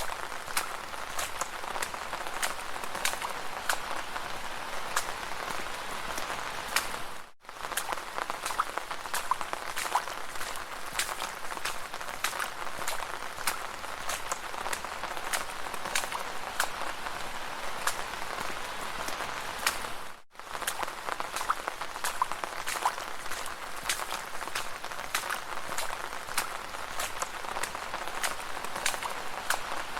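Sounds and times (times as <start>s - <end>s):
footsteps splashing through puddles: 0.0s - 29.9s.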